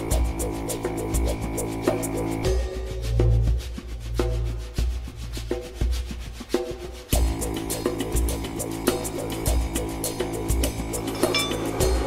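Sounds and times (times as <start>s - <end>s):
music with deep bass beat: 0.0s - 12.0s.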